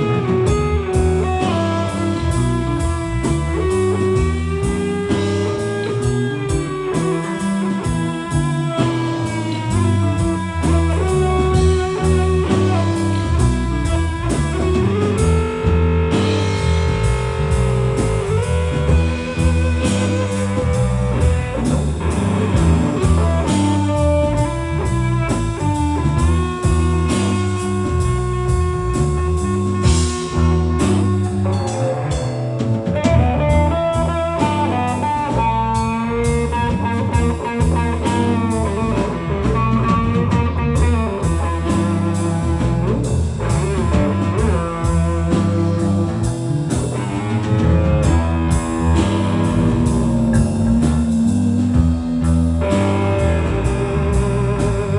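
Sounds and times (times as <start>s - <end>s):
bass guitar: 0.0s - 54.9s
drums: 0.0s - 54.9s
lead guitar with bent notes: 0.0s - 54.9s.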